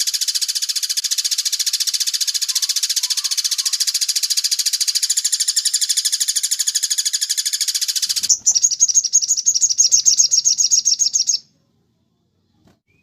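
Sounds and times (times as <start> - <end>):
bird rattling trill: 0.0 - 11.4.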